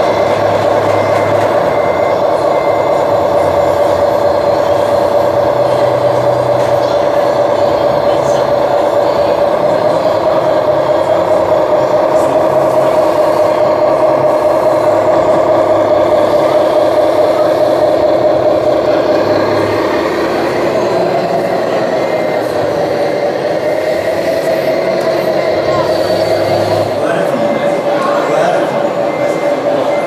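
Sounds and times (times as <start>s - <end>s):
model truck engine hum: 0.0s - 30.0s.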